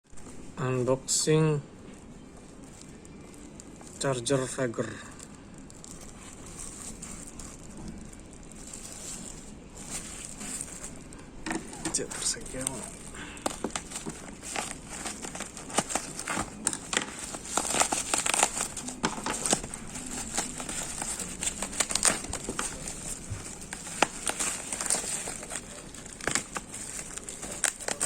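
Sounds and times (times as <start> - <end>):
packaging crinkling and rustling: 1.8 - 28.0.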